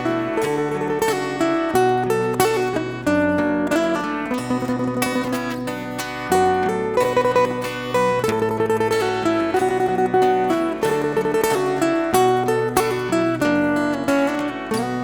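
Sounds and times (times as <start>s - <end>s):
acoustic guitar picking: 0.0s - 15.0s.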